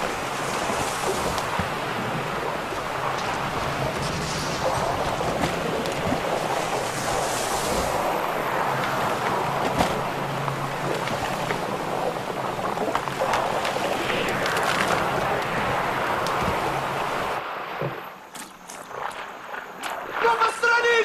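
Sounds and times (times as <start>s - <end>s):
ice crackles: 0.0s - 17.4s
rushing water and ice: 0.0s - 21.0s.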